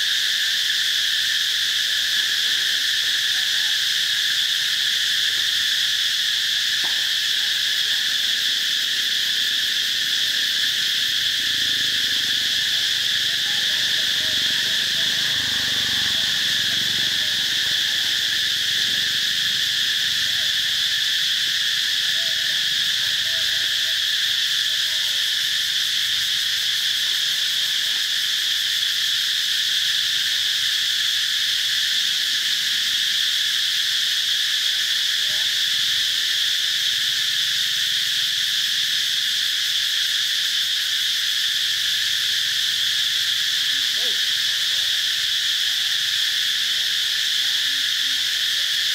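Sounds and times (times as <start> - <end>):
insect chorus drone: 0.0 - 48.9.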